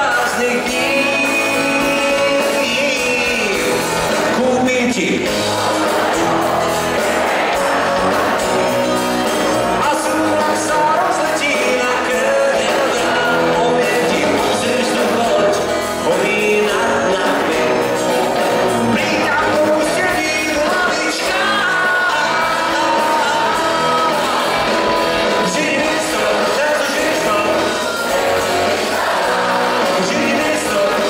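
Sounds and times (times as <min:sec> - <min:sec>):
man singing: 0:00.0 - 0:06.4, 0:09.6 - 0:31.0
live pop-rock band: 0:00.0 - 0:31.0.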